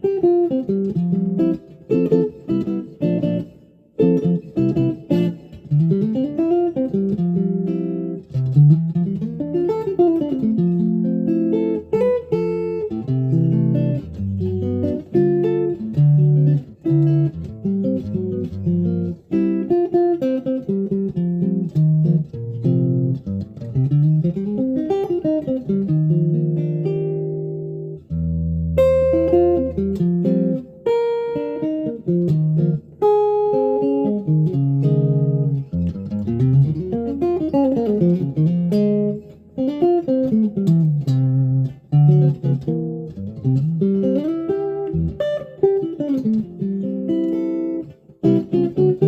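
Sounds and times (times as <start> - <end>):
solo guitar playing: 0.0 - 49.0.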